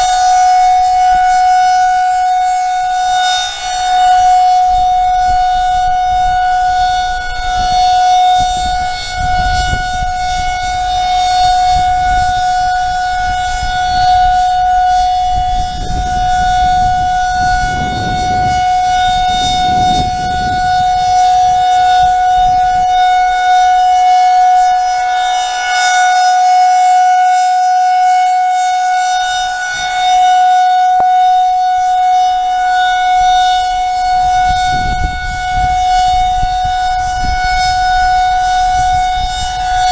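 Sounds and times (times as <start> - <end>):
tornado warning siren: 0.0 - 39.9.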